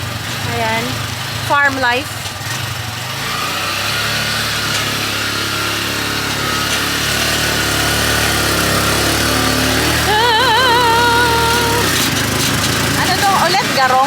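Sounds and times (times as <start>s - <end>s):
small farm vehicle engine running: 0.0s - 14.0s.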